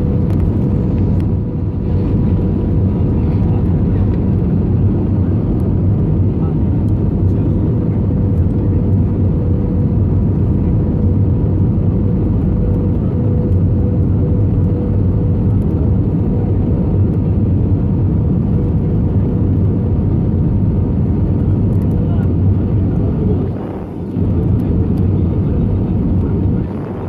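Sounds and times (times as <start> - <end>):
jet engine and airflow rumble: 0.0 - 27.0.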